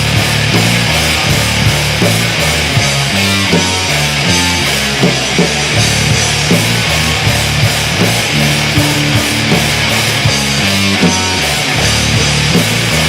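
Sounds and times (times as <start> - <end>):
black metal music: 0.0 - 13.0.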